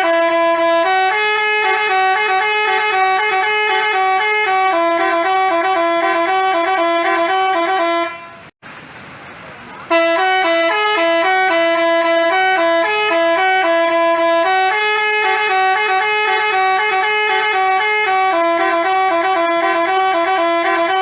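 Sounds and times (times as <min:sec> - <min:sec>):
bus horn playing a tune: 0:00.0 - 0:08.6, 0:09.9 - 0:21.0.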